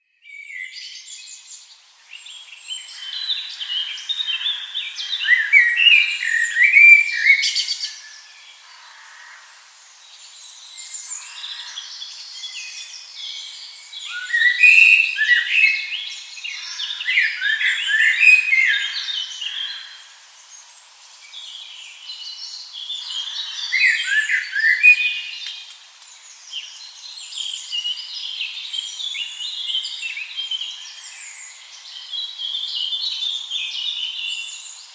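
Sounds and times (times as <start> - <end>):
birds chirping and twittering: 0.2 - 34.9.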